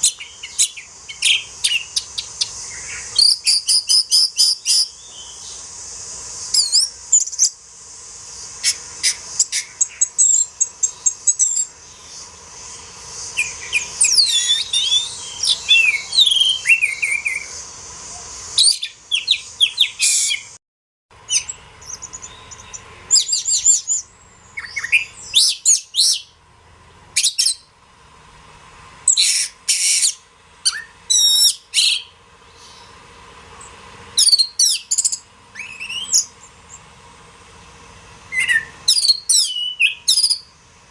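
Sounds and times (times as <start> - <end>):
bird singing whistles and trills: 0.0 - 5.6, 6.4 - 7.6, 8.6 - 20.6, 21.3 - 26.3, 27.2 - 27.7, 29.1 - 33.0, 33.6 - 36.8, 38.3 - 40.5
faint steady hum: 0.0 - 40.9.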